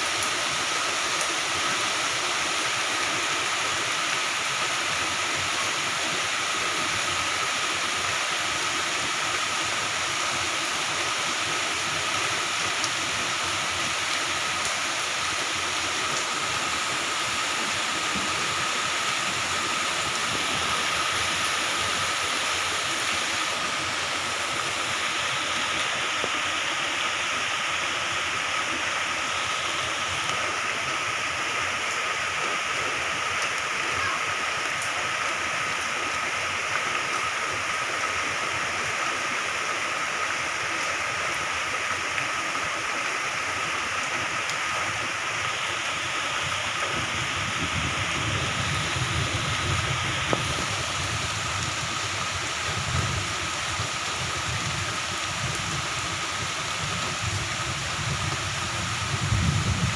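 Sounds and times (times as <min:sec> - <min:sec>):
heavy rain falling: 0:00.0 - 0:59.9
running water: 0:00.0 - 0:59.9.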